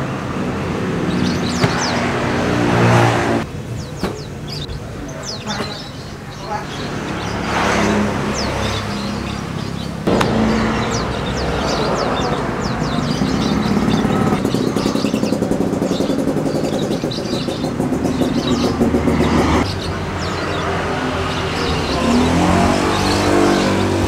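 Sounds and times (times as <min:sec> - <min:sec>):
small birds chirping: 0:00.0 - 0:24.0
vehicle engine revving: 0:00.3 - 0:03.5, 0:06.8 - 0:24.0.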